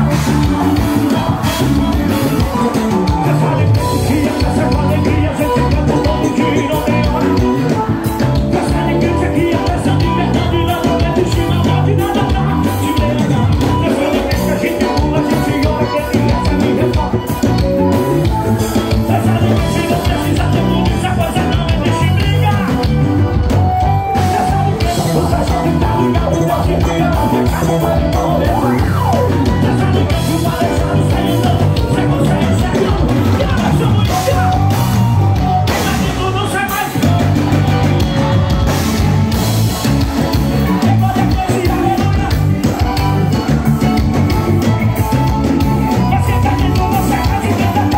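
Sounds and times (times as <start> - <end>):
bass guitar: 0.0 - 47.9
drums: 0.0 - 47.9
electric guitar: 0.0 - 47.9
man singing: 0.0 - 47.9.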